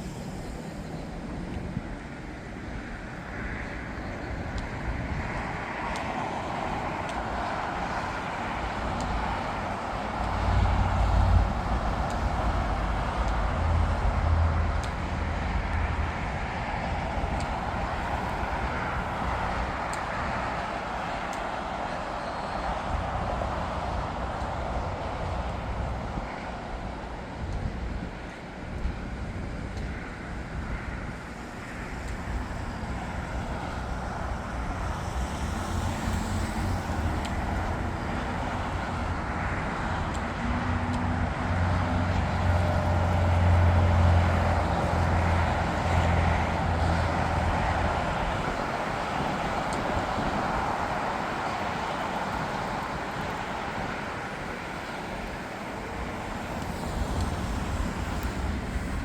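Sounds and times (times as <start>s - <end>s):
jet airliner engines roaring: 0.0s - 59.0s.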